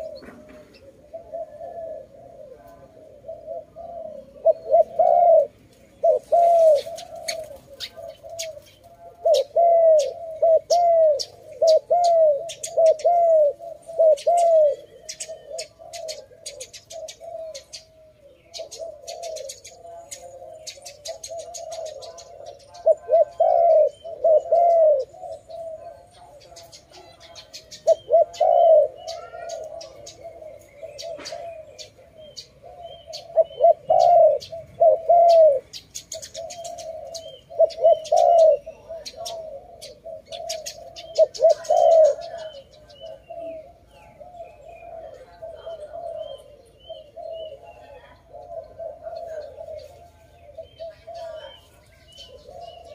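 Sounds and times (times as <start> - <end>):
dove cooing: 0.0 - 52.9
small birds chirping: 0.0 - 52.9.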